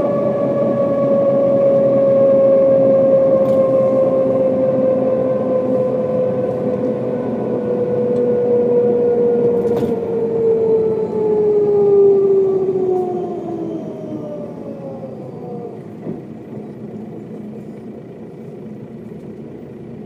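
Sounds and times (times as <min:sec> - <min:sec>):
bus drivetrain whine: 0:00.0 - 0:20.0
engine and road rumble: 0:00.0 - 0:20.0.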